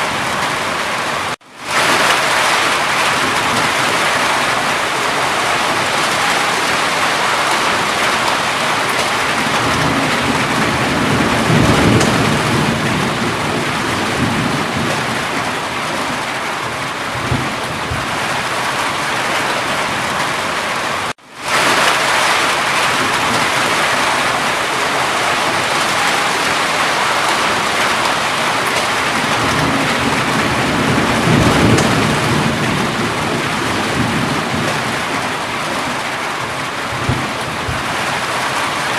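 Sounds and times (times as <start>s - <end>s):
heavy rain: 0.0s - 38.9s
low rolling thunder: 1.7s - 20.4s, 21.5s - 38.9s.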